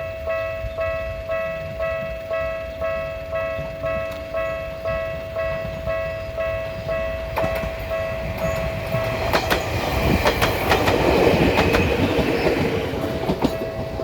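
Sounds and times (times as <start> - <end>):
level crossing warning bell: 0.0 - 10.2, 11.6 - 14.0
train wheels clicking over rail joints: 0.0 - 14.0
wind buffeting microphone: 0.0 - 14.0.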